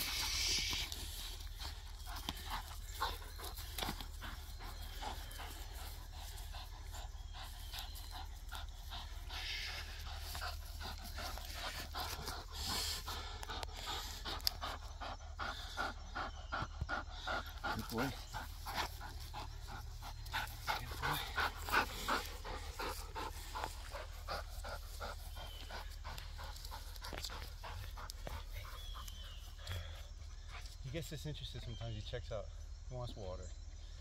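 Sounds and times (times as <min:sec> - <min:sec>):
dog panting: 0:00.0 - 0:31.2.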